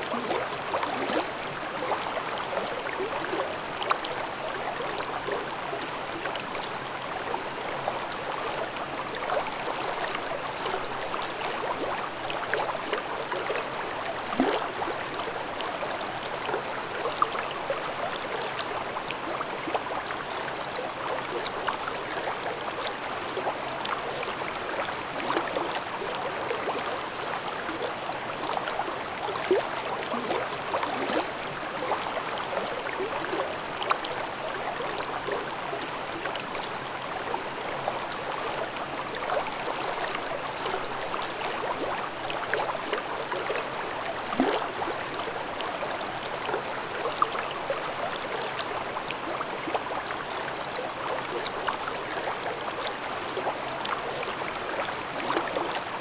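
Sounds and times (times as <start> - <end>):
stream babbling over rocks: 0.0 - 56.0
water gurgles and splashes: 0.0 - 56.0.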